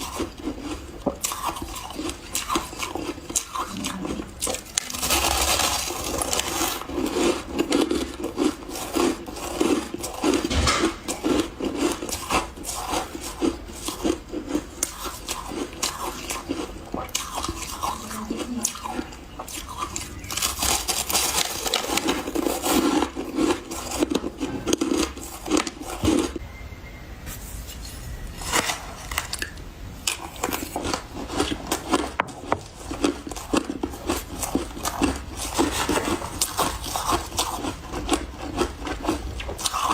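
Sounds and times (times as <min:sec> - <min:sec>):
chewing crunchy ice: 0:00.0 - 0:26.4, 0:28.4 - 0:39.9.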